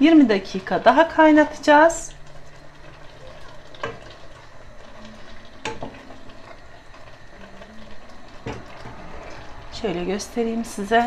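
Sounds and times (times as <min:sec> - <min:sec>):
sauce bubbling and sizzling: 0:00.0 - 0:11.0.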